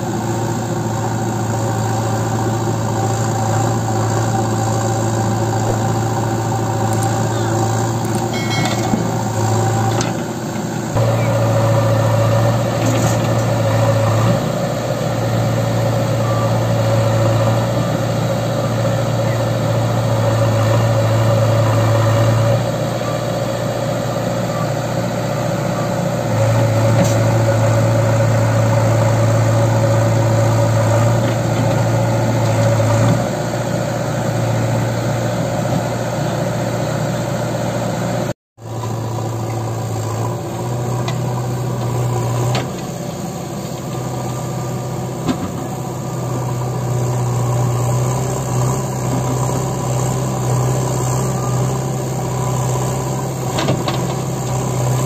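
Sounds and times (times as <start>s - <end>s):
diesel engines humming: 0.0s - 55.0s.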